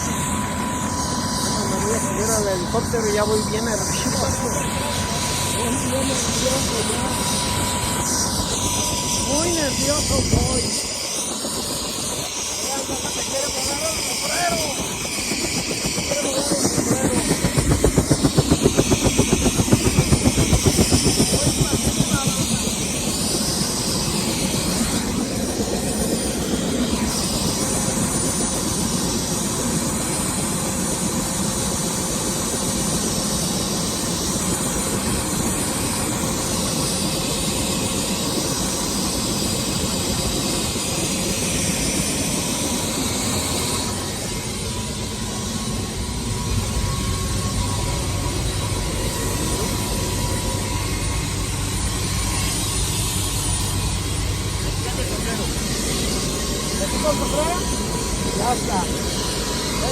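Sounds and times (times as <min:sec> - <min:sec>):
helicopter engine and rotor roar: 0:00.0 - 0:59.9.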